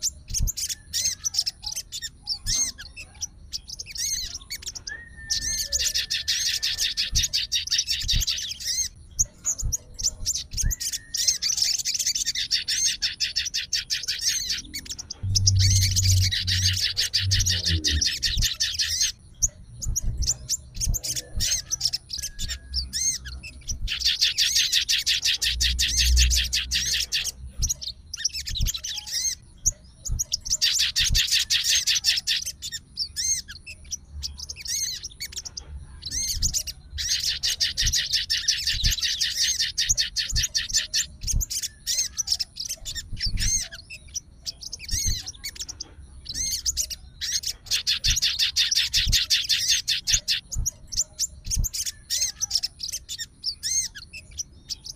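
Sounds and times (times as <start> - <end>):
songbird chattering trills: 0.0 - 54.9
songbird chirps: 0.0 - 54.9.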